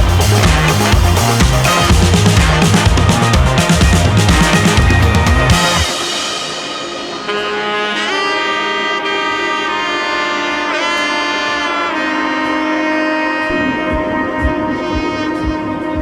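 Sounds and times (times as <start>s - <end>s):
sustained saxophone notes: 0.0s - 16.0s.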